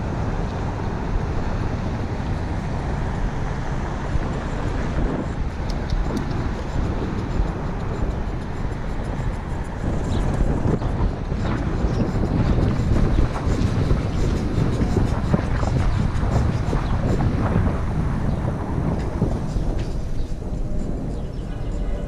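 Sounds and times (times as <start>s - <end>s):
car traffic passing: 0.0s - 22.0s
wind over microphone: 0.0s - 22.0s.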